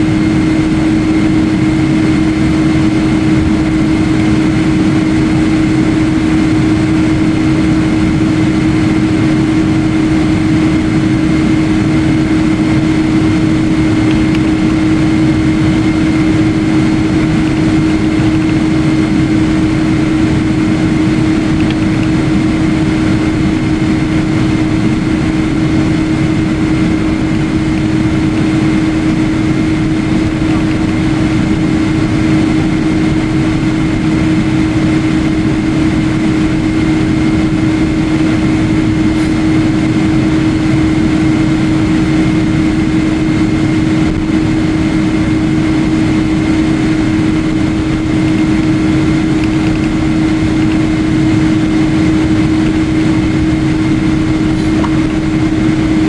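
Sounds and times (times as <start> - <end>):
jet airliner cabin noise: 0.0 - 56.0.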